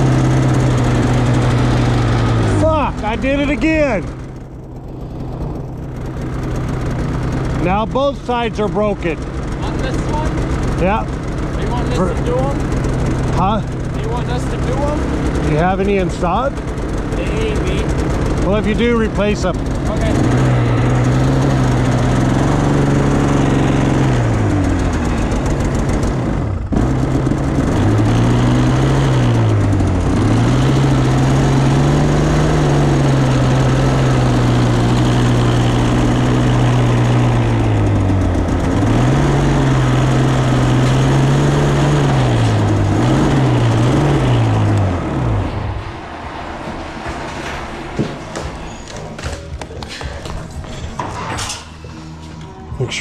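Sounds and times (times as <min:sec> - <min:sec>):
vehicle engine accelerating: 0:00.0 - 0:53.0.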